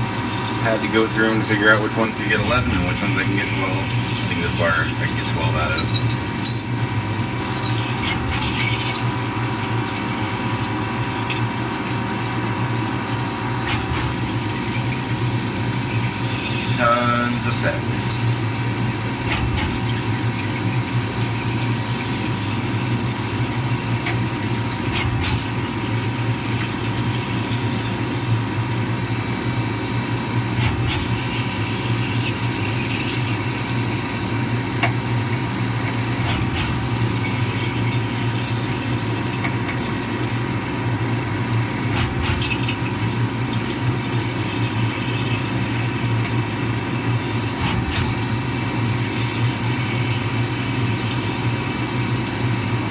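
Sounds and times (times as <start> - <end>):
coolant spraying: 0.0 - 52.9
machine hum with whine: 0.0 - 52.9.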